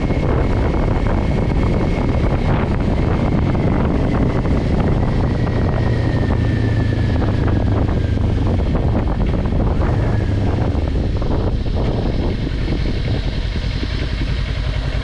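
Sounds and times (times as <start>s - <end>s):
faint whine dropping in pitch: 0.0s - 15.0s
motorcycle engine running: 0.0s - 15.0s
wind buffeting microphone: 0.0s - 15.0s.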